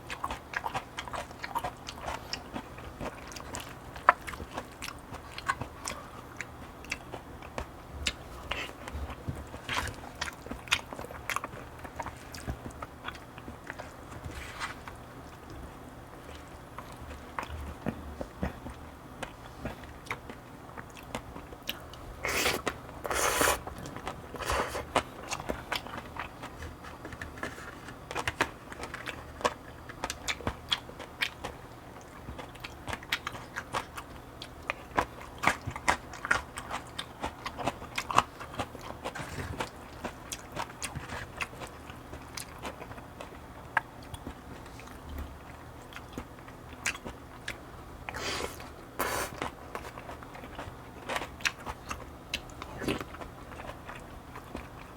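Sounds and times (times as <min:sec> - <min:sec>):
chewing with mouth clicks: 0:00.0 - 0:54.9.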